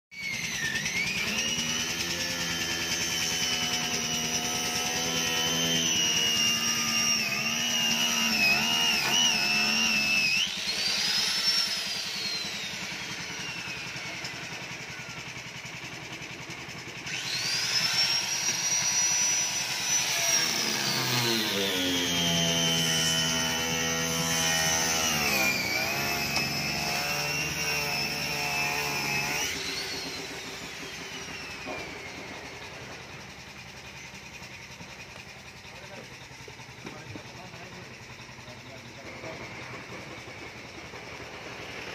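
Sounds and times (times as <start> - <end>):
power tool spinning down: 0.1 - 41.9
power tool whining: 0.1 - 41.9.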